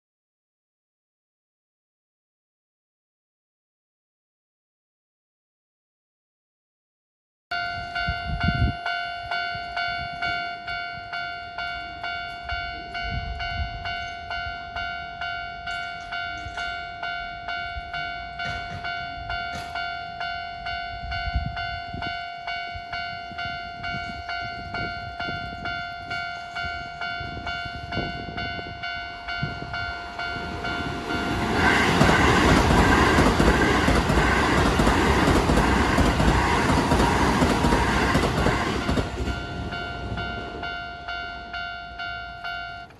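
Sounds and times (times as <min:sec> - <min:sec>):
level crossing alarm ringing: 0:07.5 - 0:42.9
electric train passing: 0:07.6 - 0:42.9.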